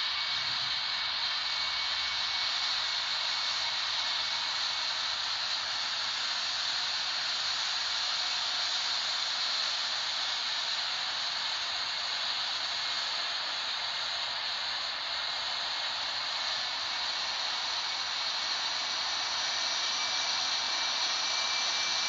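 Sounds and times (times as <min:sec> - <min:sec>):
jet engine hiss: 0:00.0 - 0:22.0.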